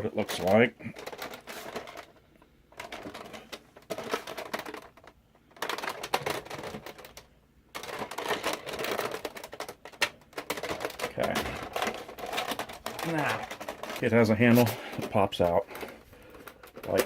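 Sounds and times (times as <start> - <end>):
clicking and rustling handling noise: 0.0 - 17.0.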